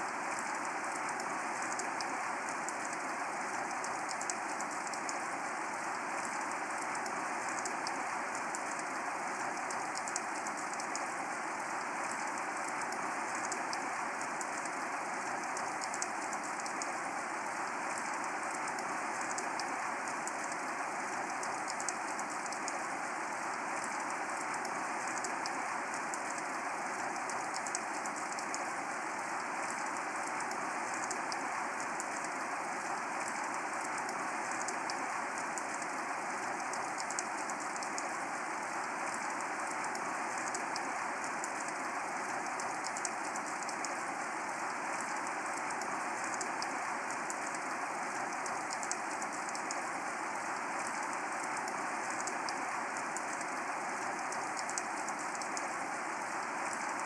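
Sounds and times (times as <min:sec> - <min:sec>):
sharp ticks of raindrops: 0:00.0 - 0:57.0
steady rain falling: 0:00.0 - 0:57.0.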